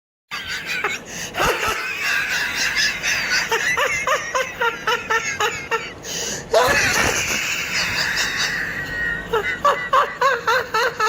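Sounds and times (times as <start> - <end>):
person laughing maniacally: 0.3 - 11.0.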